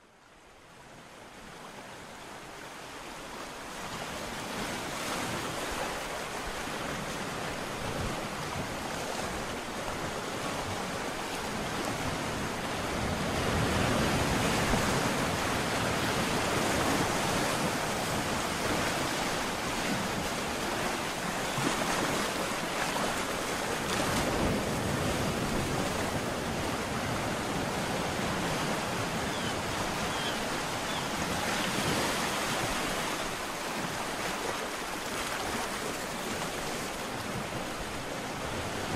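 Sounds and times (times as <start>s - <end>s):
ocean waves breaking: 1.4s - 38.9s.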